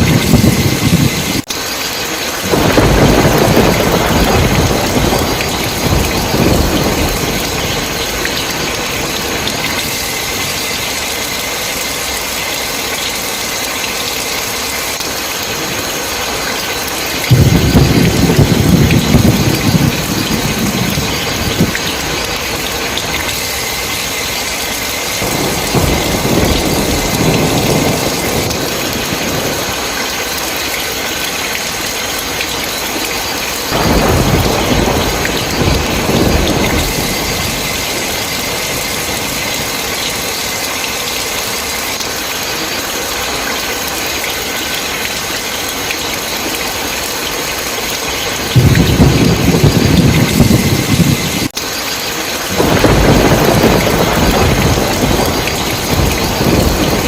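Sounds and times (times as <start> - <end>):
thunder rumbling: 0.0 - 43.9, 44.6 - 57.0
heavy rain: 0.0 - 57.0.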